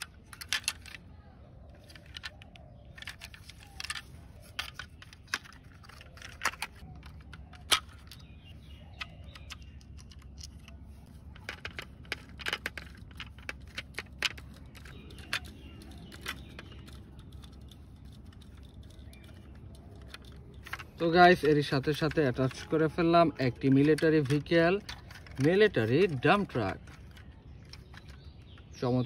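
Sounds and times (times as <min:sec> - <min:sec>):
toy parts clicking and rattling: 0:00.0 - 0:29.0.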